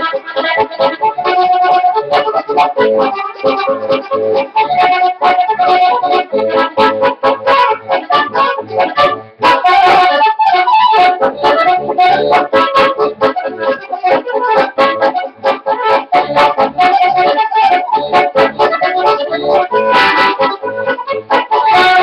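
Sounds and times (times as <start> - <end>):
accordion playing polka: 0.0 - 22.0.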